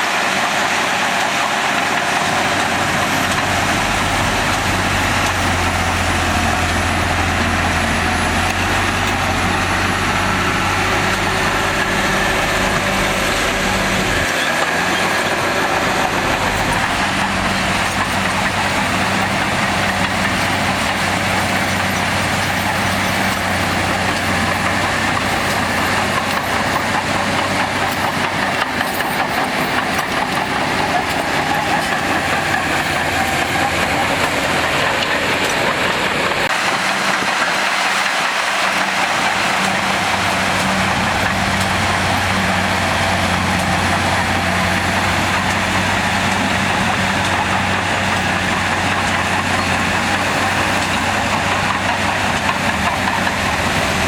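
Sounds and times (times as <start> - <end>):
diesel machinery engine drone: 0.0 - 54.0
hiss of working noise: 0.0 - 54.0.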